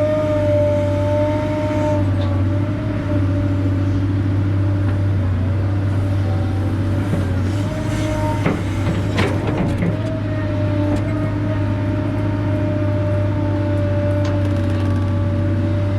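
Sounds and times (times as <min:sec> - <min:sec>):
diesel engine running with whine: 0:00.0 - 0:15.9.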